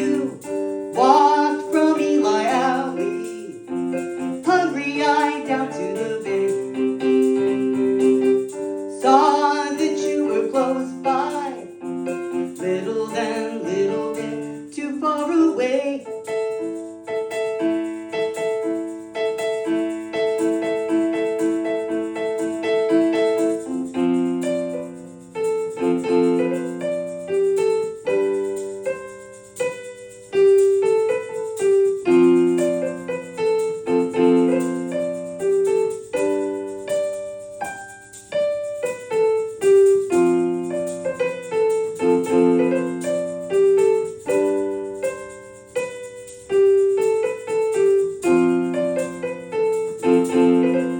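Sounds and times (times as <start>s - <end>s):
piano playing repeated chords: 0.0s - 50.9s.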